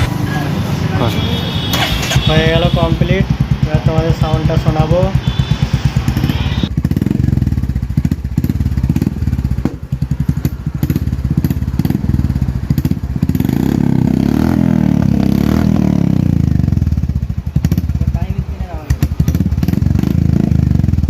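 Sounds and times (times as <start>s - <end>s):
motorcycle engine thumping: 1.6s - 21.0s.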